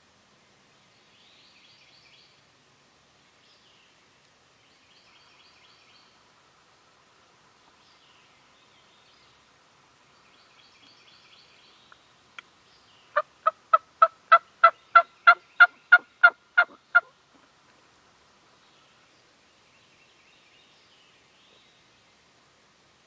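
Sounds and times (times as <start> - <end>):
faint songbird chirping: 0.3 - 23.0.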